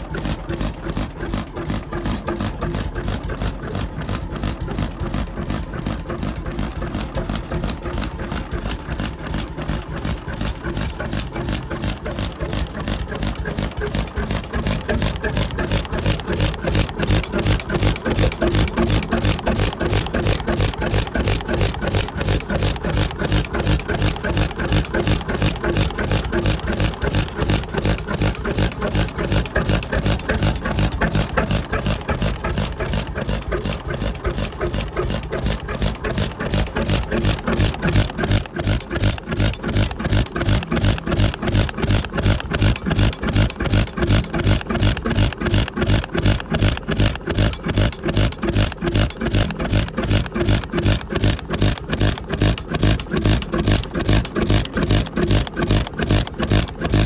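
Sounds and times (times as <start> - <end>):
stationary engine knocking: 0.0 - 57.0.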